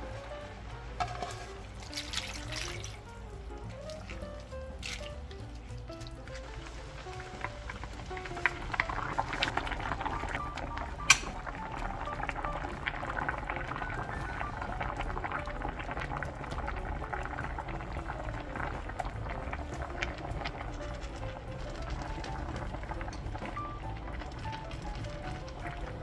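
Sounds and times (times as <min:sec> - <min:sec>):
broth boiling with pops: 0:00.0 - 0:26.0.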